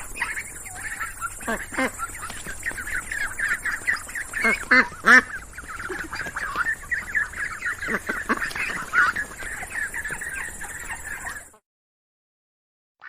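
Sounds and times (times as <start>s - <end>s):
ducks quacking: 0.0s - 11.6s.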